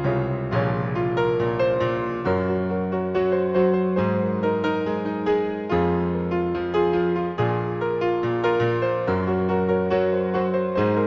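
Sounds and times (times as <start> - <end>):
keyboard melody over bass: 0.0 - 11.0.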